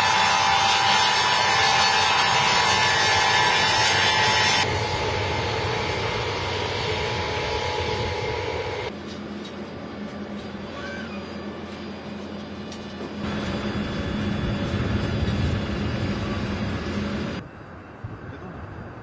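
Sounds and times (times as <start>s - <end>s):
heavy engines running: 0.0s - 17.4s.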